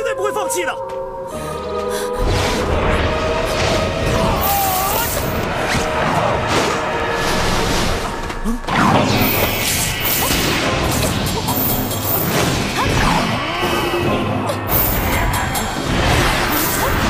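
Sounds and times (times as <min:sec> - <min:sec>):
dramatic background music: 0:00.0 - 0:17.0.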